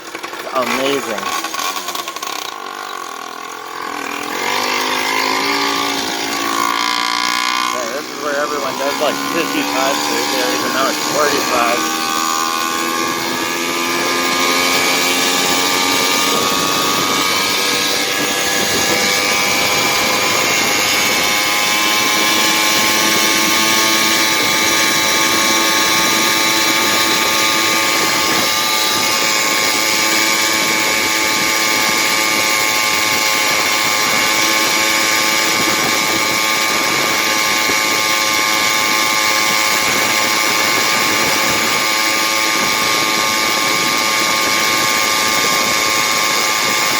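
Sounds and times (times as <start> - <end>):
two-stroke engine at high revs: 0.0 - 46.9.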